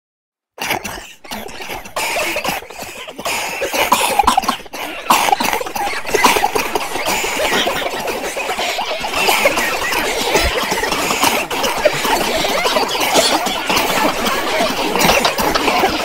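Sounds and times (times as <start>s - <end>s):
crowd coughing: 0.6s - 16.0s.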